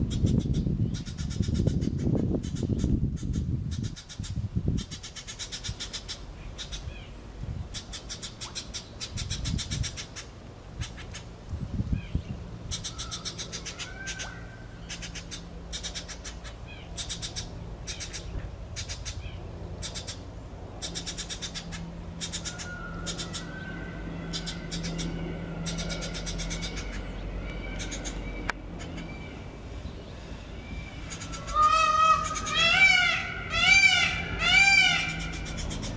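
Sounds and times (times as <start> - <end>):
drawn-out bird calls: 0.0 - 11.4, 12.6 - 35.9.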